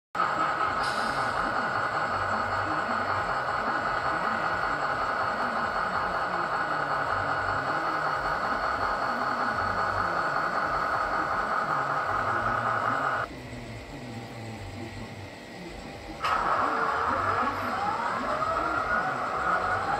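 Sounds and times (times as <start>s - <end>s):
mechanical whine: 0.2s - 19.9s.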